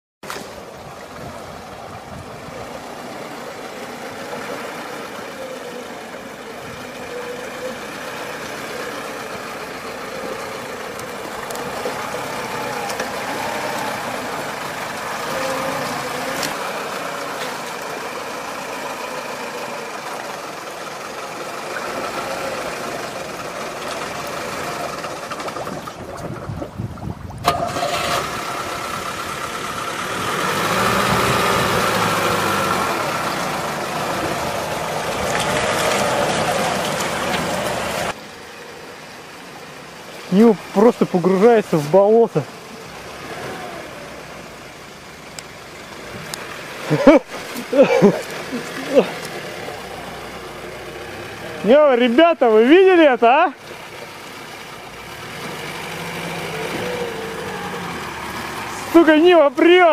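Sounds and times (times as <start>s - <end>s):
vehicle engine revving: 1.6s - 59.9s.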